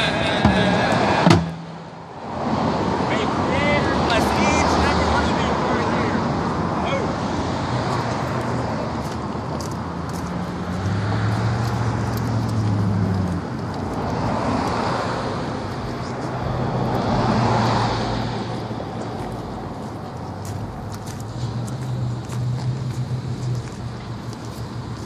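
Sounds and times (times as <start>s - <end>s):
cars driving past: 0.0s - 25.0s.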